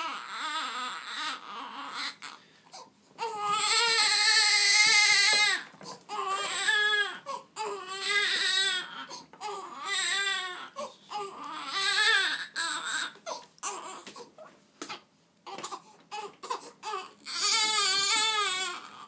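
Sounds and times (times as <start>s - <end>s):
newborn baby crying: 0.0s - 19.0s.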